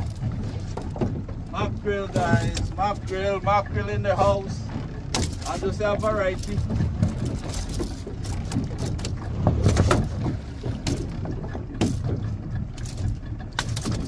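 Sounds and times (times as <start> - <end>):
steady low rumble: 0.0 - 14.0
water slapping against hull: 0.0 - 14.0.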